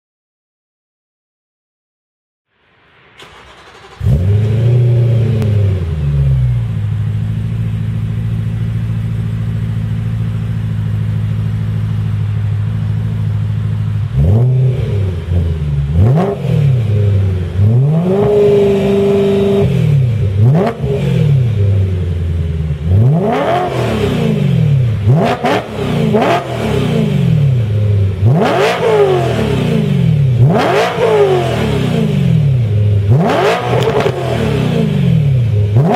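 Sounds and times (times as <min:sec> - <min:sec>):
car engine idling and revving: 0:02.9 - 0:35.9.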